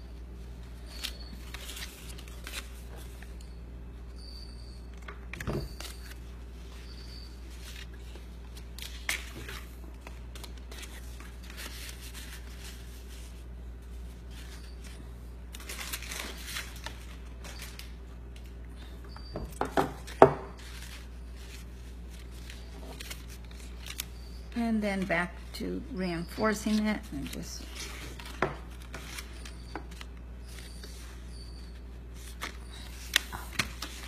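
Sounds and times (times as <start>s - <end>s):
cardstock rustling and crinkling: 0.7s - 3.4s, 5.3s - 18.0s, 20.0s - 25.5s, 26.3s - 31.3s, 32.1s - 34.0s.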